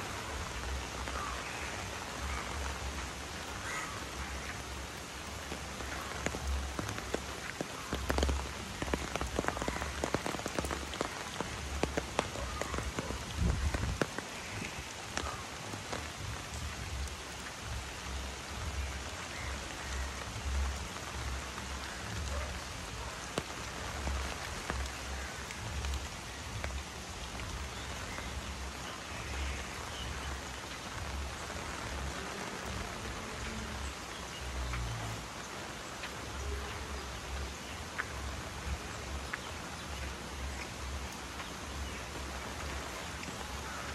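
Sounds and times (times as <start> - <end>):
rain falling: 0.0 - 43.9
raindrops tapping on umbrella: 0.0 - 43.9.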